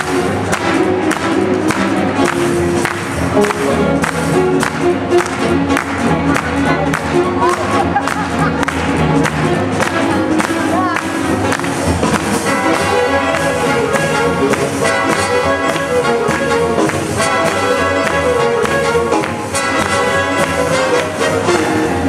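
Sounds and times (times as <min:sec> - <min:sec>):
saxophones and brass: 0:00.0 - 0:22.0
swing big band playing: 0:00.0 - 0:22.0.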